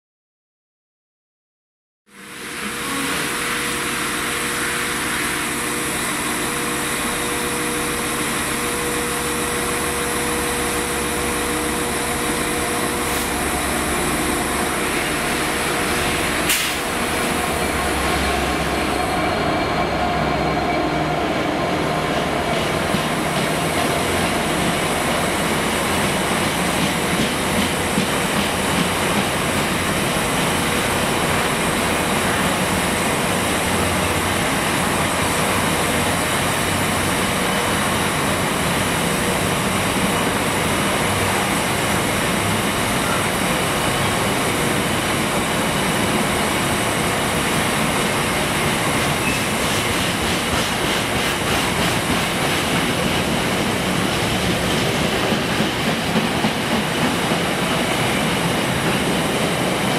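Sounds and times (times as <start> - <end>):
diesel locomotive engine rumble: 2.1 - 59.9.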